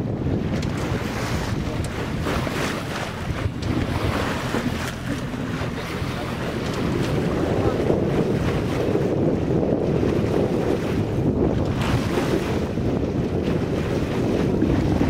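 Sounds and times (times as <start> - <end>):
low boat engine drone: 0.0 - 15.0
water rushing along hull: 0.0 - 15.0
wind buffeting microphone: 0.0 - 15.0.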